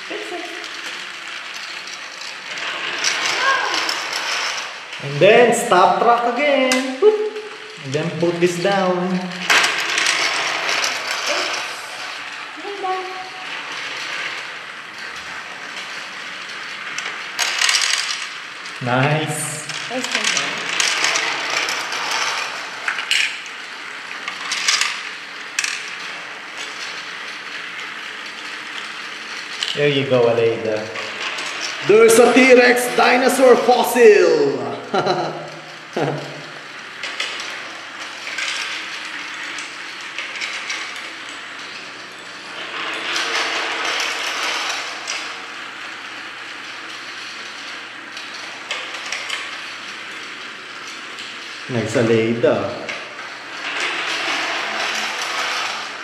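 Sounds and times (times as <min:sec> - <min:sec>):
toy train motor whirring: 0:00.0 - 0:56.0.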